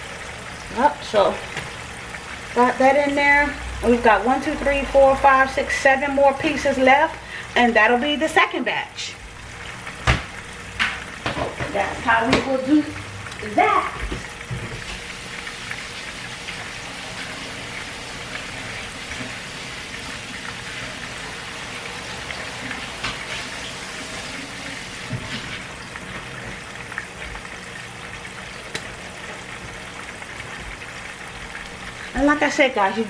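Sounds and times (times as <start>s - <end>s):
oil sizzling with pops: 0.0s - 33.0s.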